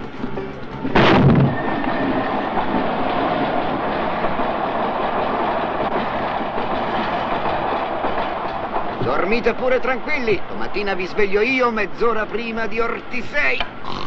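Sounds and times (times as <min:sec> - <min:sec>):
train carriage running noise: 0:00.0 - 0:14.0.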